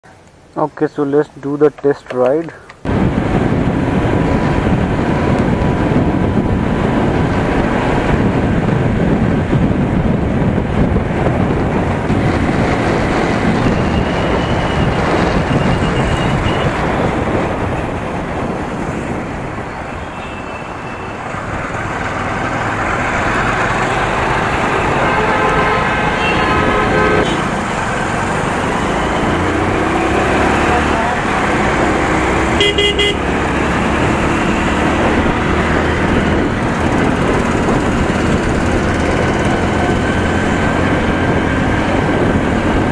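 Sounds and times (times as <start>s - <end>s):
road noise: 0.0s - 42.9s
wind buffeting microphone: 2.5s - 42.9s
motorcycle engine: 2.9s - 42.9s.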